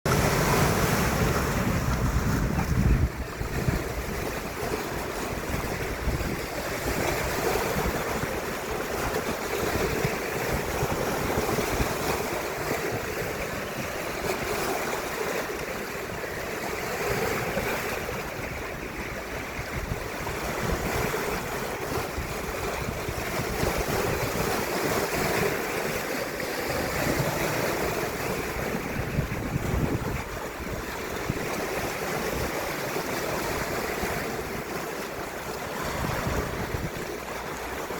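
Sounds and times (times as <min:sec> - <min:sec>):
waves washing ashore: 0:00.1 - 0:37.9
wind buffeting microphone: 0:00.1 - 0:37.9.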